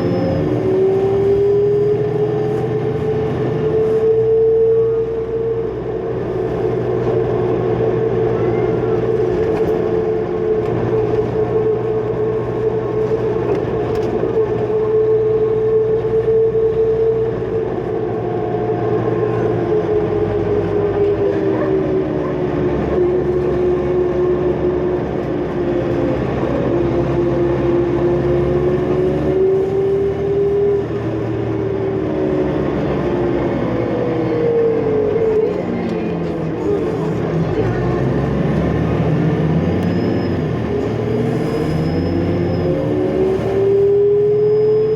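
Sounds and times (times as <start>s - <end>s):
diesel bus engine shifting gears: 0.0s - 44.9s.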